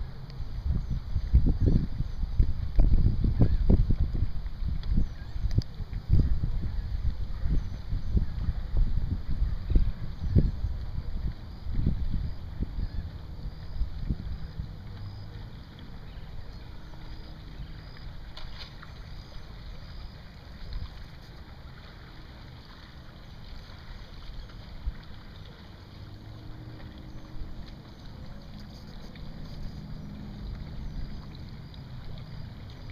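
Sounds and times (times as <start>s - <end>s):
kayak paddle splashing water: 0.0s - 32.9s
steady low rumble: 0.0s - 32.9s.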